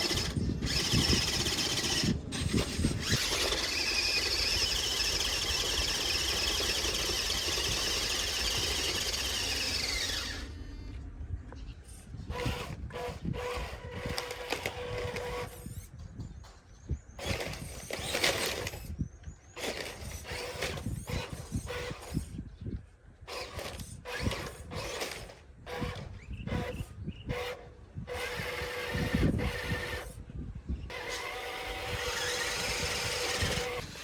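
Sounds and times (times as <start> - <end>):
toy truck motor whining: 0.0 - 11.0, 11.9 - 16.1, 17.1 - 22.5, 23.3 - 30.2, 30.8 - 34.0.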